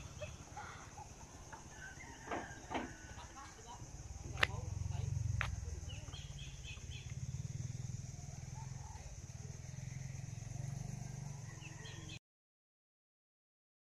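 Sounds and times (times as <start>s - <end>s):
faint chirps: 0.0s - 12.2s
small engine rumble: 0.0s - 12.2s.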